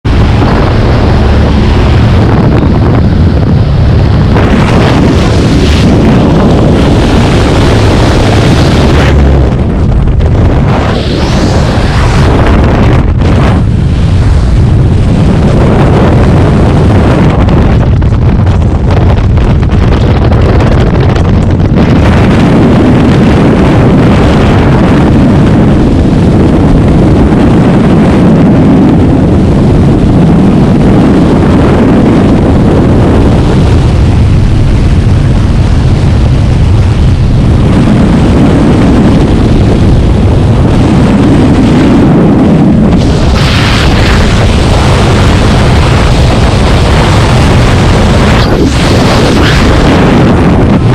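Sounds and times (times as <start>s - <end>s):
freefall wind rushing: 0.0s - 50.9s.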